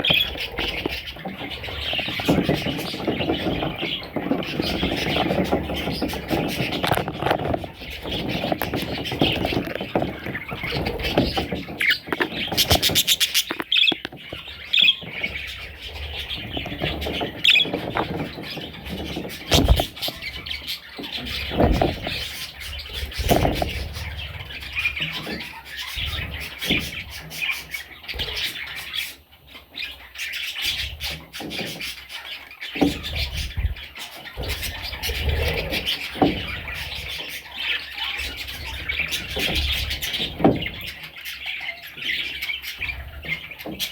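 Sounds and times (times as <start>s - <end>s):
budgerigars chirping: 0.0s - 43.9s.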